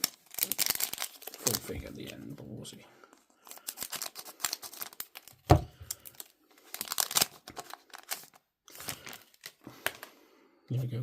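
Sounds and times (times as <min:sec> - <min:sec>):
wrapper crinkling and tearing: 0:00.0 - 0:02.2, 0:03.4 - 0:10.1.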